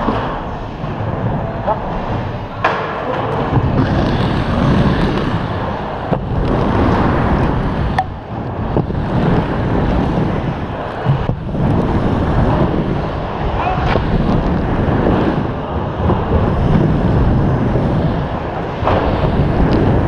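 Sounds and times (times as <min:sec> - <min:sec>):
skate wheels rolling on wooden ramp: 0:00.0 - 0:20.0
wind rushing over microphone: 0:00.0 - 0:20.0.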